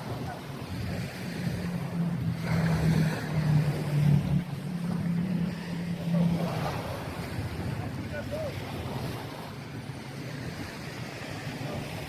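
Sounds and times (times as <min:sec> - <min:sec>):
engine droning: 0:00.0 - 0:12.0
surf washing: 0:00.0 - 0:12.0.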